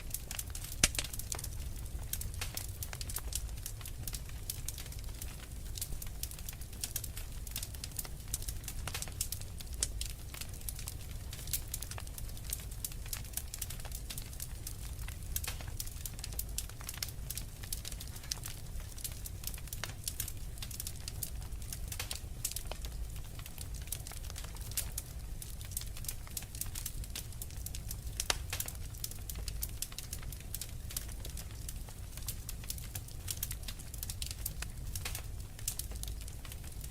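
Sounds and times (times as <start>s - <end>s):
fireplace fire crackling: 0.0s - 36.9s.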